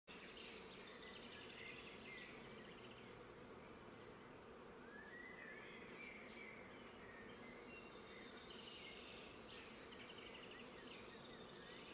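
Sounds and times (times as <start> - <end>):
bird chirps and trills: 0.1 - 11.9.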